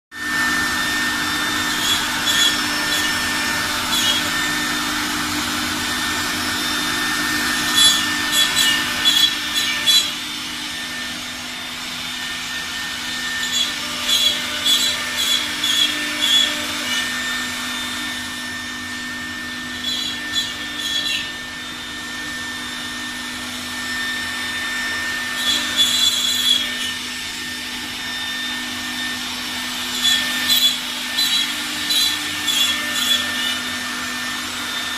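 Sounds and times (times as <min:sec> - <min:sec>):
router bit crackling through wood: 0:00.1 - 0:34.9
wood router machine whine: 0:00.1 - 0:34.9.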